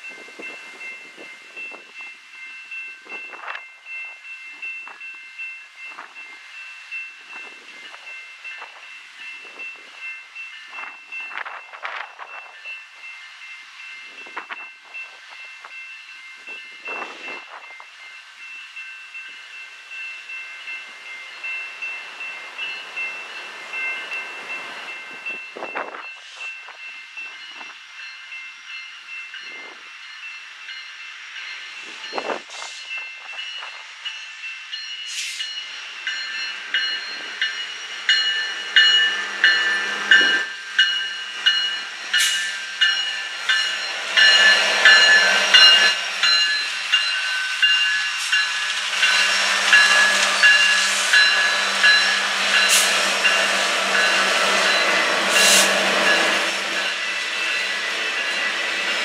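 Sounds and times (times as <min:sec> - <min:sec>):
crossing warning bell ringing: 0:00.0 - 0:59.0
diesel locomotives passing: 0:00.0 - 0:59.0.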